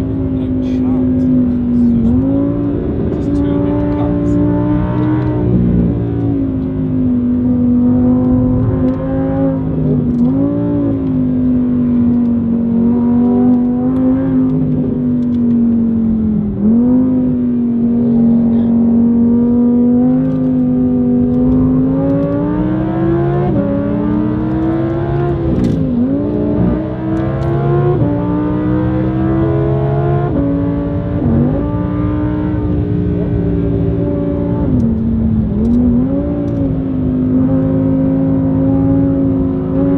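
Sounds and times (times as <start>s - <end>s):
car engine revving from inside cabin: 0.1s - 39.9s.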